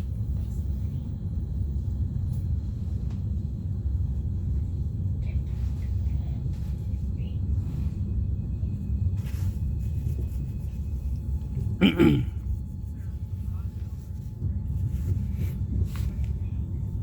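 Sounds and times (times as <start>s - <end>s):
train running rumble: 0.0s - 17.0s.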